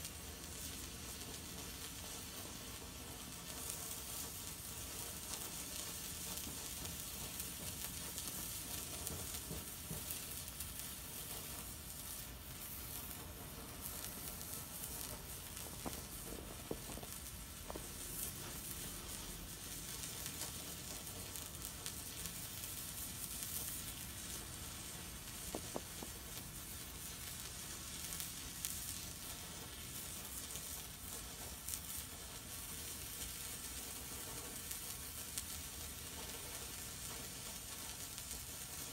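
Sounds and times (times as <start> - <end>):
faint crackles: 0.0 - 38.9
flare burning with a hiss: 0.0 - 38.9.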